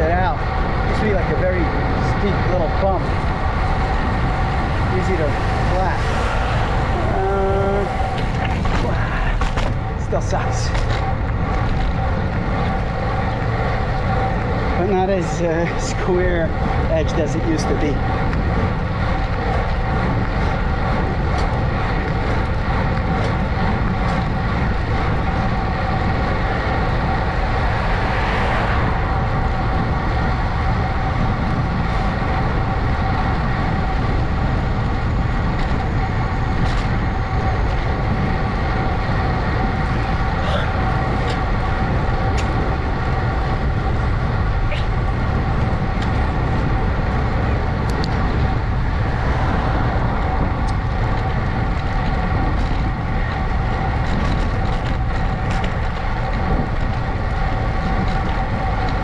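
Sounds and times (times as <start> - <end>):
constant hum: 0.0 - 59.0
wind and road noise: 0.0 - 59.0.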